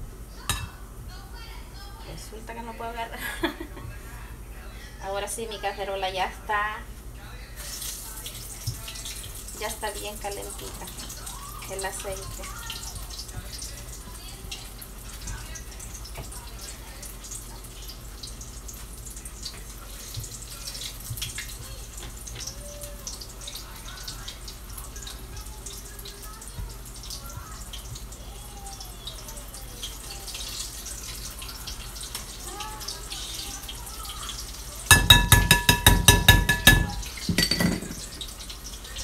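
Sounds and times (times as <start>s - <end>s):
oil sizzling in a frying pan: 5.1s - 39.0s.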